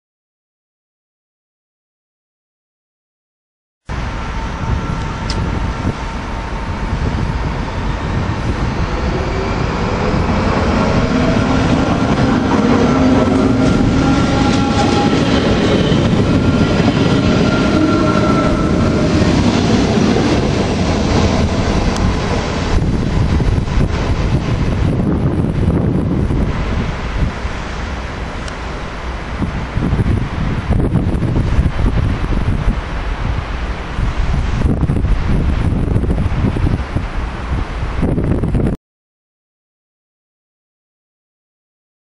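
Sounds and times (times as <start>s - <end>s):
electric train whine: 3.9s - 38.4s
train wheels rumbling on rails: 3.9s - 38.6s.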